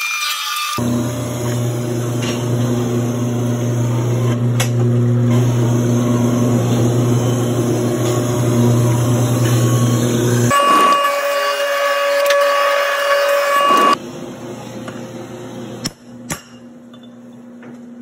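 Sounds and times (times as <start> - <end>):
grinder machine hum: 0.7 - 15.8.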